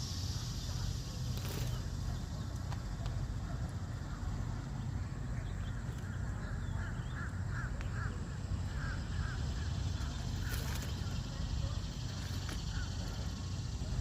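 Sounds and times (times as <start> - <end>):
bird calling: 0.4 - 14.0.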